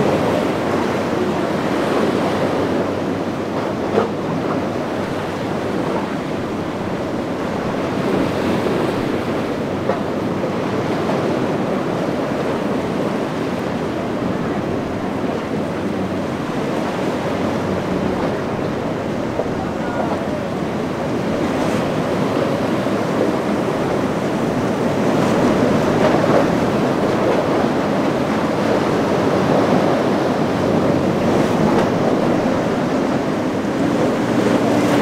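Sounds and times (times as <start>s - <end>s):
waves breaking: 0.0s - 35.0s
wind buffeting microphone: 0.0s - 35.0s.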